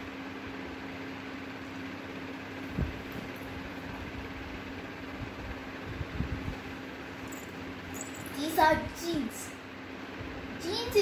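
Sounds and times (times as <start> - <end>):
steady hum with tone: 0.0 - 11.0.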